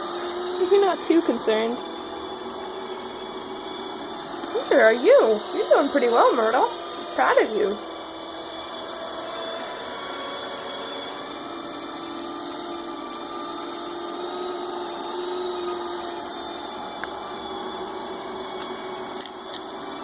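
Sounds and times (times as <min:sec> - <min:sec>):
robot vacuum motor whirring: 0:00.0 - 0:20.0.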